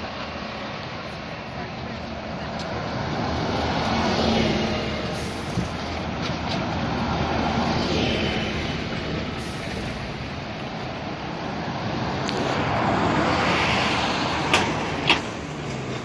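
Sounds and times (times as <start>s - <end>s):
buses passing close by: 0.0s - 16.0s.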